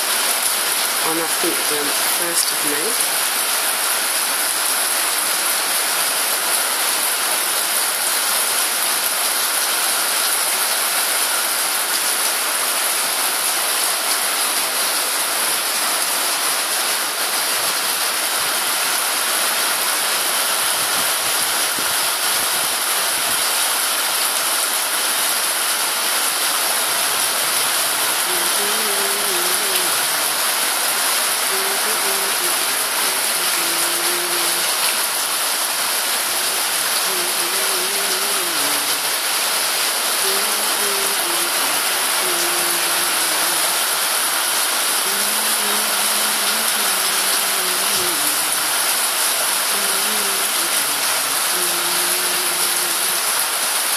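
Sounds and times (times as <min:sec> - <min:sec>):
rain on paving: 0:00.0 - 0:53.9.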